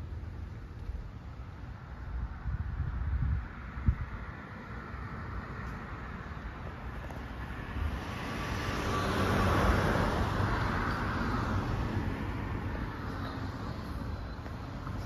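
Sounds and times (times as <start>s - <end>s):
road vehicle passing by: 0.0s - 15.0s
wind rumble on microphone: 1.9s - 15.0s.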